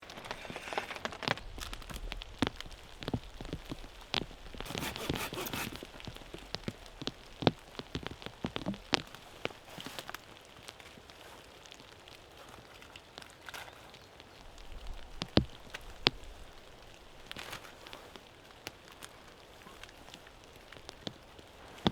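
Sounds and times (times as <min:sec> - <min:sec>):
faint rain hiss: 0:00.0 - 0:21.9
raindrops tapping: 0:00.0 - 0:21.9.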